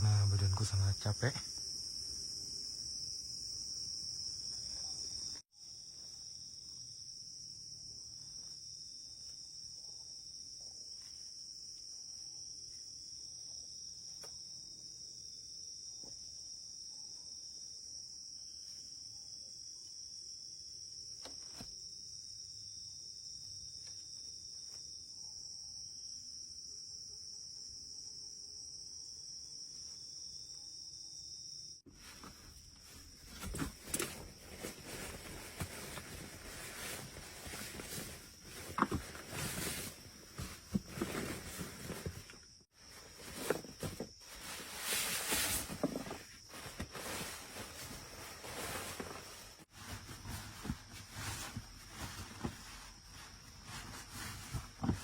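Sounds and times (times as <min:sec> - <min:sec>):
night insects chorus: 0:00.0 - 0:55.0.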